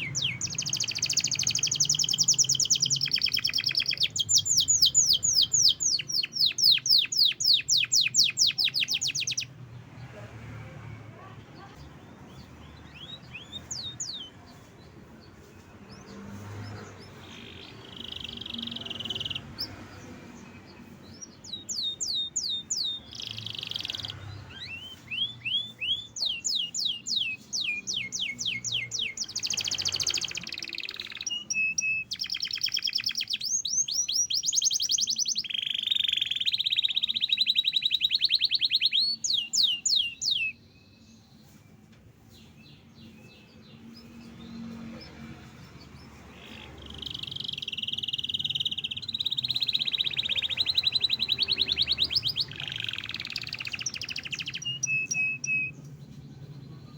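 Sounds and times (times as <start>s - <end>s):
canary singing: 0.0s - 10.0s, 11.0s - 56.9s.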